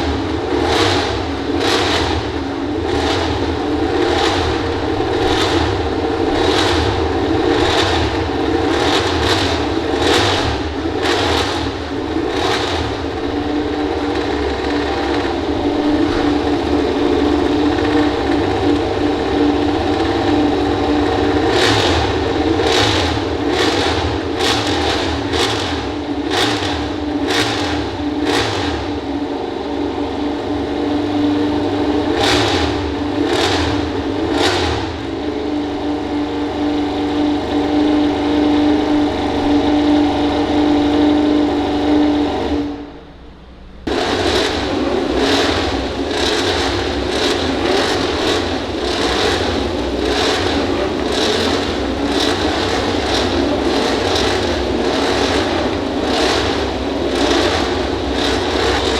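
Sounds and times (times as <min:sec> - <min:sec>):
sharp engine revving bursts: 0:00.0 - 0:29.3, 0:30.8 - 0:58.9
racing motorcycle engines droning: 0:00.0 - 0:58.9.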